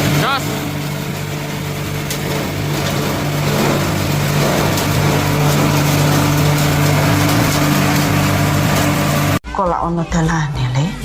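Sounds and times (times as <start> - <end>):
grinder motor humming: 0.0 - 9.4
rushing grinding noise: 0.0 - 9.4.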